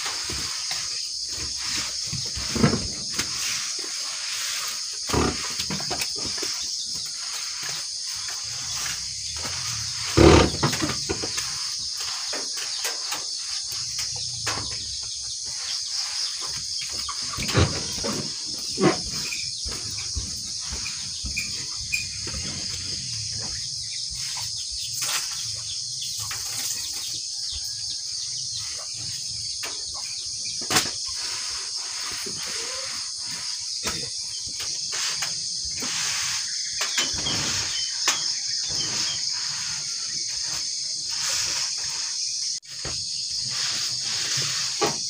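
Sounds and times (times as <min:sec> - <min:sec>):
night insects chirring: 0:00.0 - 0:45.0.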